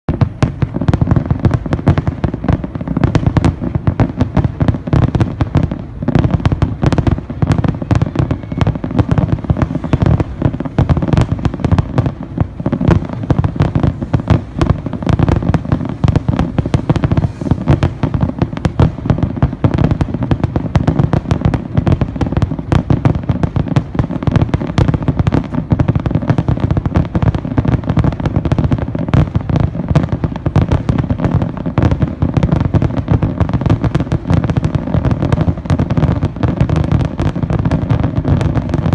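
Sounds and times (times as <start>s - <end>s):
fireworks bursting: 0.1s - 38.9s.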